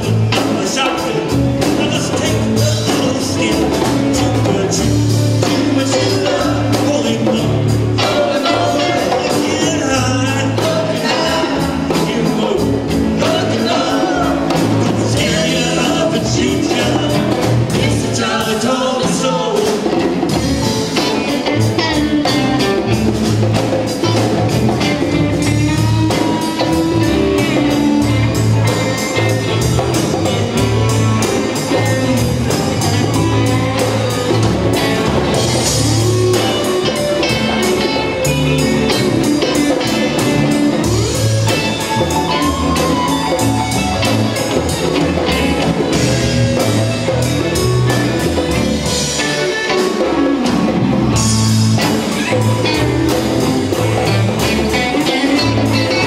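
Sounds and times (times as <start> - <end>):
drum kit beat: 0.0 - 56.0
electric guitars: 0.0 - 56.0.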